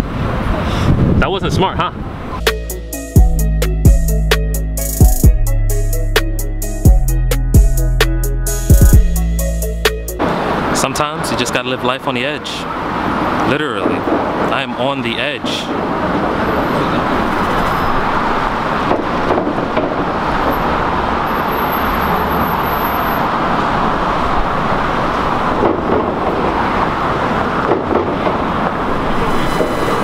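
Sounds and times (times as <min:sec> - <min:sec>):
car engines and tyre noise: 0:00.0 - 0:30.0
deep traffic rumble: 0:00.0 - 0:30.0.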